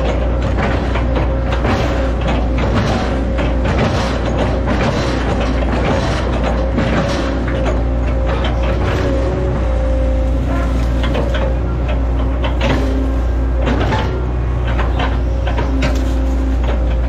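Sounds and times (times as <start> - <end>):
excavator diesel engine running: 0.0 - 17.0
hydraulic whine: 0.0 - 17.0
sharp cracks and knocks of wood: 0.0 - 17.0.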